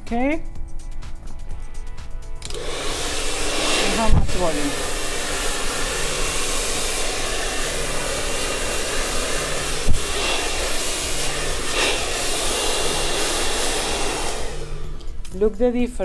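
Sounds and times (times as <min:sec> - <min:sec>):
hair dryer blowing: 0:02.4 - 0:15.4.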